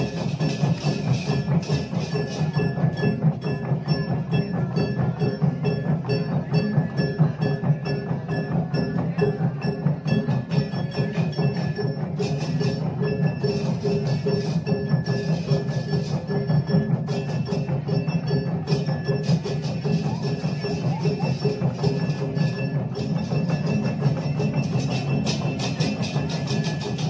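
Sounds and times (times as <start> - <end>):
cymbals: 0.0 - 27.0
drums: 0.0 - 27.0
wooden cattle bells clattering: 0.0 - 27.0.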